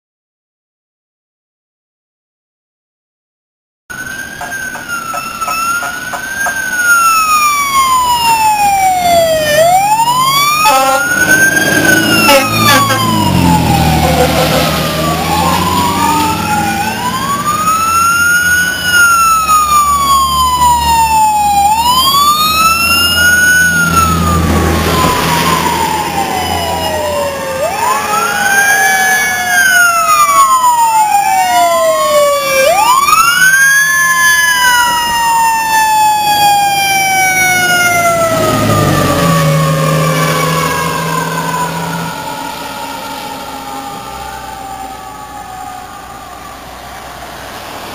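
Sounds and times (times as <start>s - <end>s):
sirens wailing: 3.9s - 47.9s.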